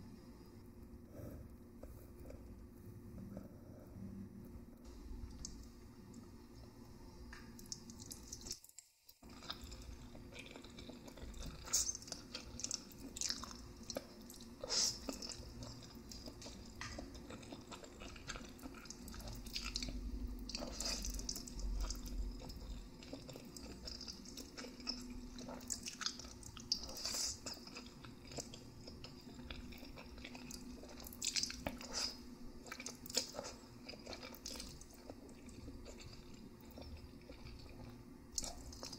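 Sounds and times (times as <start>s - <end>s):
faint steady hum: 0.0s - 38.9s
chewing noodles: 7.6s - 38.9s.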